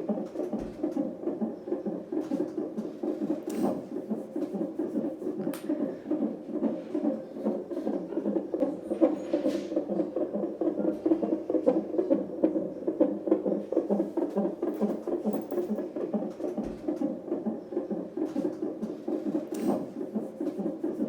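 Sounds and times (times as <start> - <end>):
fetal heartbeat whooshing pulse: 0.0 - 21.0.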